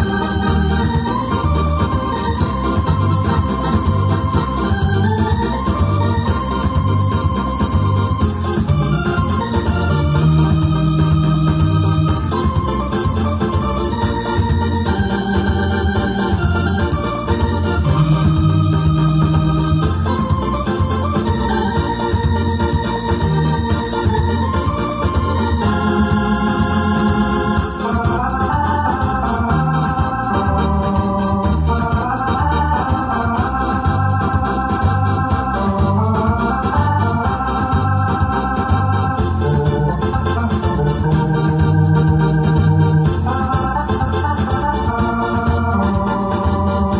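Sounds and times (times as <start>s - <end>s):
drum and bass accompaniment: 0.0s - 46.9s
keyboard melody over chords: 0.0s - 46.9s.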